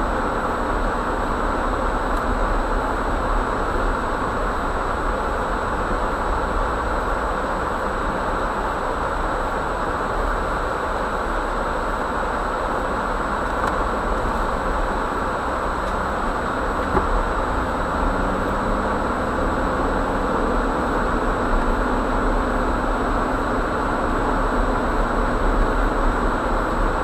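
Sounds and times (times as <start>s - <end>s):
car engine hum and tyre noise: 0.0s - 27.0s.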